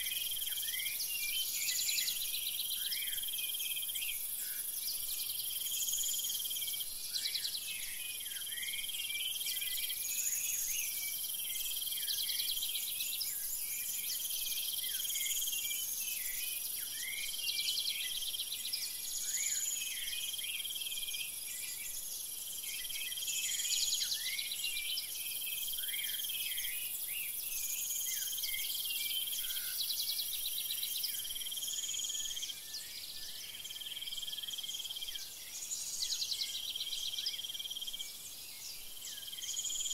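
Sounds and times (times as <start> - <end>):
high insect hiss: 0.0 - 39.9.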